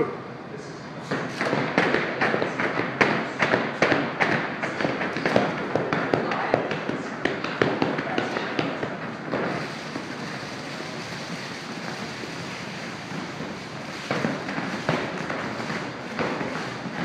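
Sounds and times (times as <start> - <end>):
battle ropes slapping rubber floor: 1.1 - 17.0.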